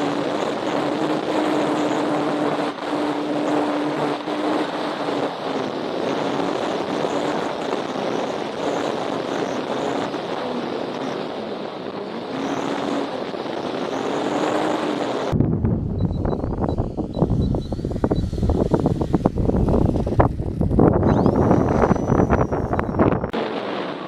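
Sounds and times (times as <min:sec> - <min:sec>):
model airplane engine: 0:00.0 - 0:15.4, 0:16.1 - 0:24.0
wind noise on microphone: 0:00.0 - 0:24.0.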